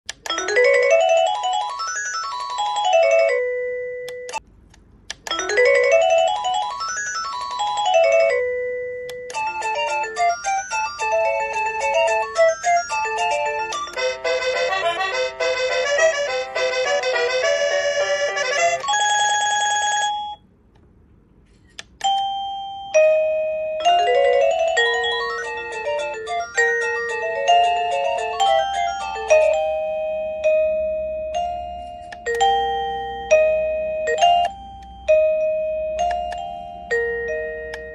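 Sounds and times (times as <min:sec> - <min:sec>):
doorbell chime melody: 0:00.3 - 0:04.4, 0:05.4 - 0:14.8, 0:18.6 - 0:20.4, 0:22.0 - 0:37.9.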